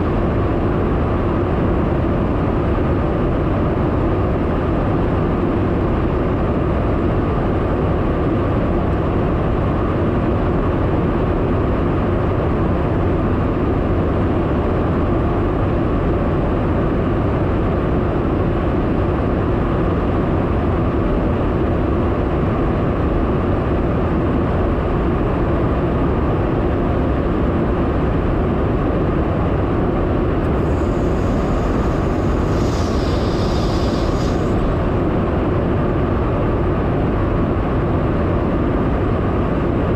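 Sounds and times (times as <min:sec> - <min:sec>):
aircraft engines and rushing air: 0:00.0 - 0:39.9.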